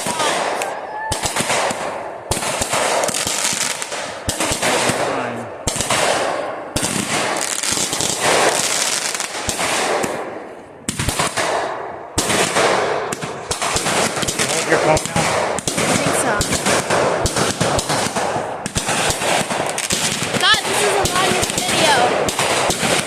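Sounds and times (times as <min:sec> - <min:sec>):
firecrackers crackling: 0:00.0 - 0:23.0.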